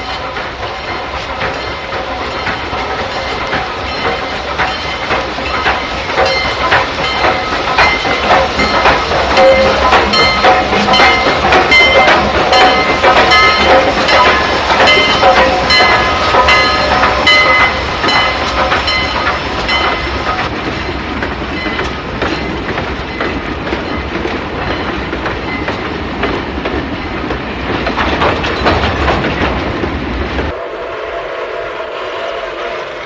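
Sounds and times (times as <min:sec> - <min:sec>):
wheels clattering over rail joints: 0:00.0 - 0:30.5
train rumbling past: 0:00.0 - 0:33.0.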